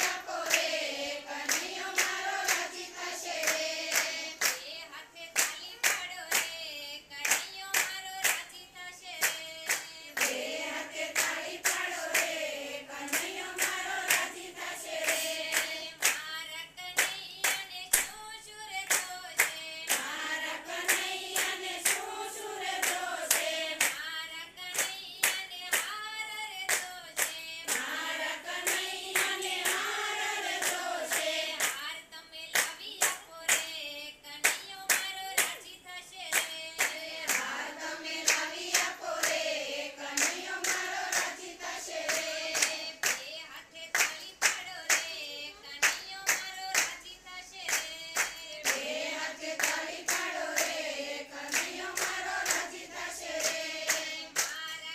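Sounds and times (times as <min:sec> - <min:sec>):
hands clapping: 0:00.0 - 0:00.7, 0:01.4 - 0:04.7, 0:05.4 - 0:06.6, 0:07.2 - 0:08.6, 0:09.2 - 0:12.4, 0:13.0 - 0:16.4, 0:17.0 - 0:18.2, 0:18.8 - 0:24.1, 0:24.7 - 0:26.0, 0:26.6 - 0:31.9, 0:32.5 - 0:33.8, 0:34.4 - 0:35.7, 0:36.3 - 0:39.4, 0:40.2 - 0:43.3, 0:43.9 - 0:47.0, 0:47.7 - 0:50.8, 0:51.5 - 0:54.9
women singing in unison: 0:00.0 - 0:54.9.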